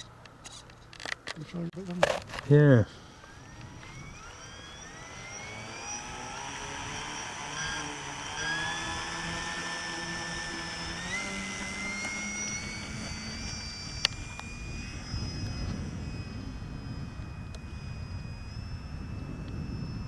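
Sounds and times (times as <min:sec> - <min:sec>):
model plane motor whine: 0:02.0 - 0:20.0
wind on microphone: 0:03.1 - 0:20.0.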